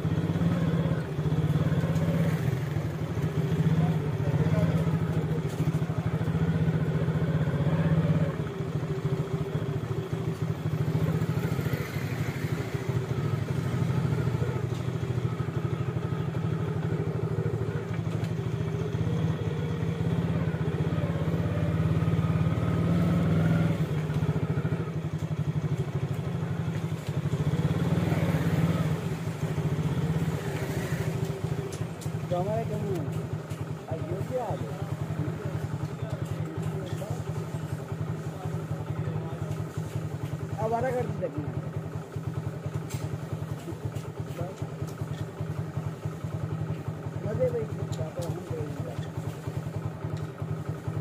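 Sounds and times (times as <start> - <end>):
engine running close by: 0.0 - 51.0
street traffic: 0.0 - 51.0.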